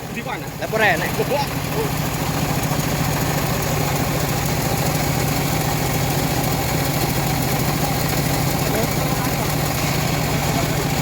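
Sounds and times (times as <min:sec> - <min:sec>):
sawmill engine droning: 0:00.0 - 0:11.0.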